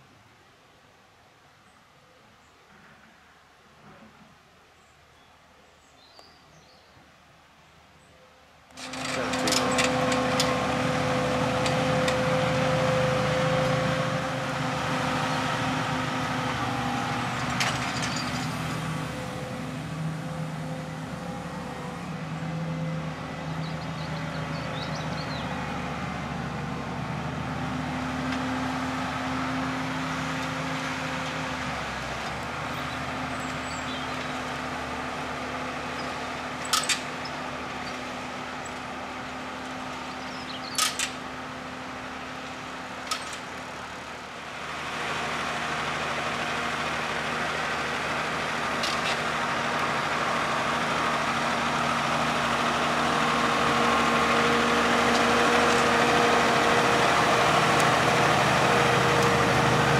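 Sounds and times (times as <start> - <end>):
tractor diesel engine running: 8.7 - 59.9.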